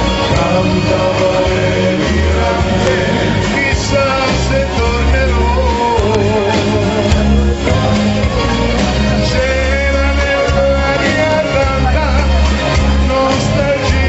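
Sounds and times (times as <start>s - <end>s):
live band playing: 0.0s - 14.0s
man singing into microphone: 0.0s - 14.0s.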